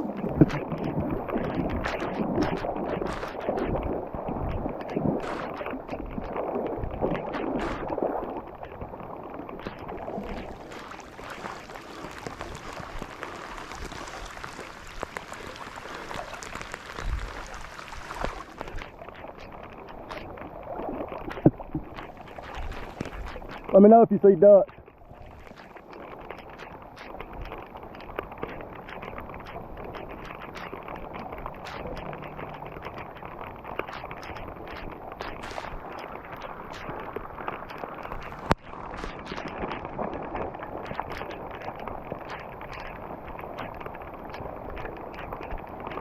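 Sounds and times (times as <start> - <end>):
water splashing and sloshing: 0.0 - 46.0.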